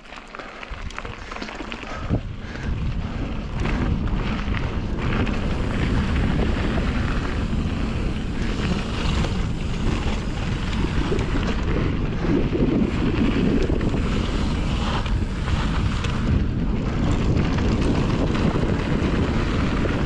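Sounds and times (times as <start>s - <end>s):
tyres rumbling on dirt trail: 0.0s - 20.0s
wind buffeting microphone: 0.6s - 20.0s.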